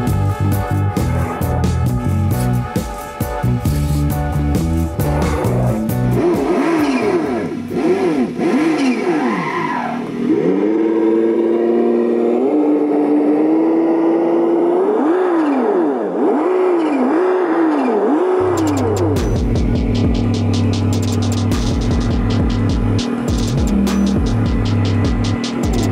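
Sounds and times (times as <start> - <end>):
simulated car engine revving: 3.5 - 25.9.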